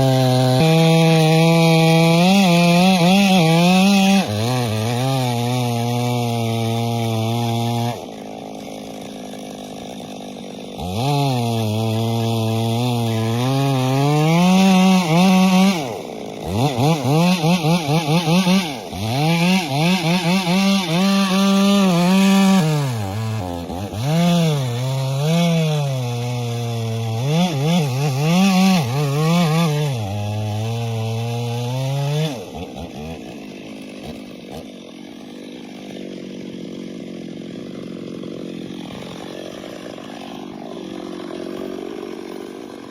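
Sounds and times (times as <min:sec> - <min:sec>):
chainsaw engine revving: 0:00.0 - 0:42.9.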